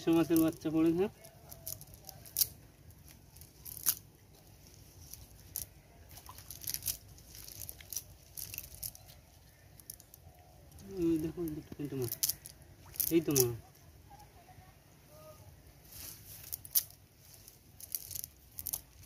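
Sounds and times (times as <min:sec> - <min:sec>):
fishing net crackling and rustling: 0:00.0 - 0:13.8, 0:15.6 - 0:19.0.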